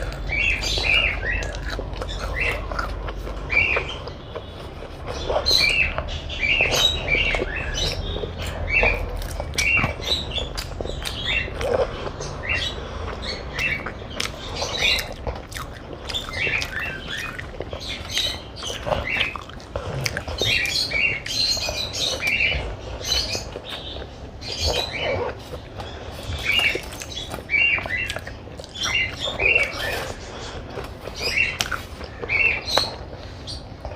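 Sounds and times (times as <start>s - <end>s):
person chewing and lip smacking: 0.0s - 33.9s.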